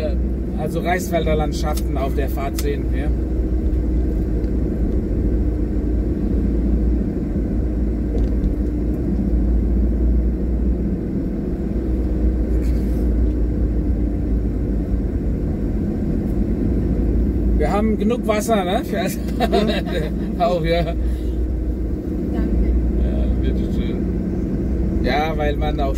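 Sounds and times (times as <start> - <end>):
car engine rumble: 0.0 - 25.9
tyres on road: 0.0 - 25.9.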